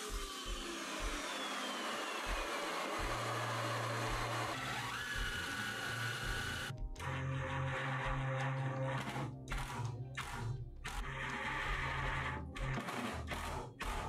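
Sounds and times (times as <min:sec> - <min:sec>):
cordless drill driving screws: 0:00.0 - 0:14.0
saw blade winding down: 0:00.0 - 0:14.0.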